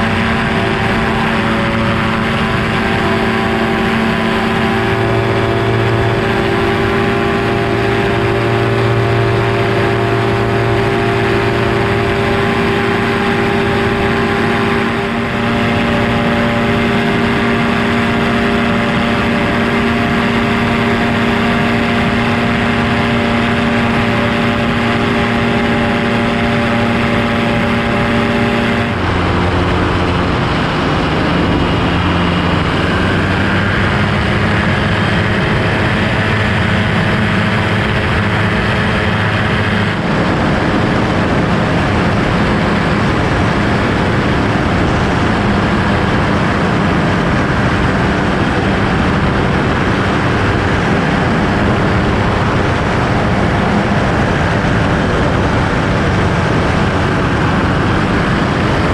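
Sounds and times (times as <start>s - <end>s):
ultralight engine and propeller: 0.0s - 58.9s.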